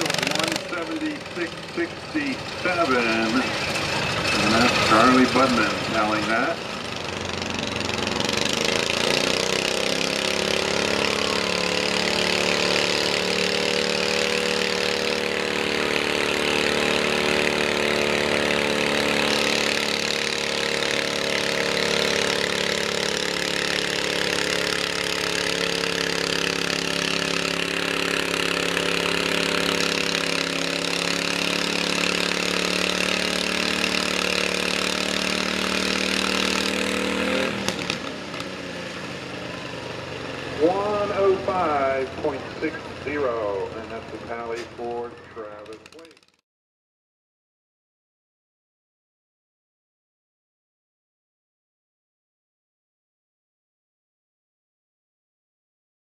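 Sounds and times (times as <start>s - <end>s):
garden tractor engine under load: 0.0s - 46.4s.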